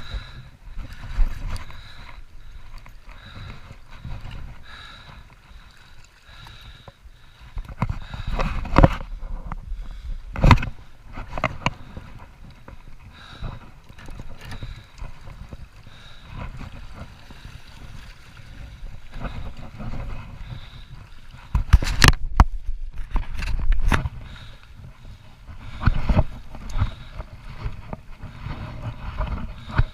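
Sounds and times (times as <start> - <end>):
water rumbling around boat hull: 0.0 - 29.9.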